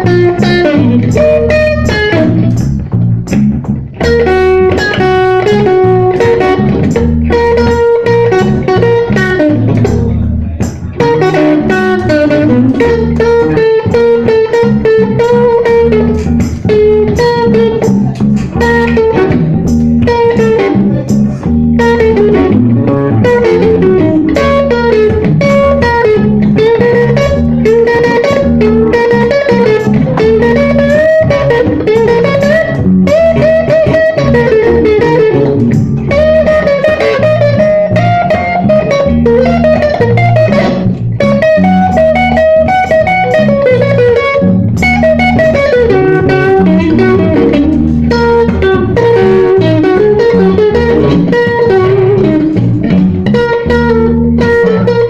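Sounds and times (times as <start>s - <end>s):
bass line: 0.0s - 55.0s
electric guitar bending notes: 0.0s - 55.0s.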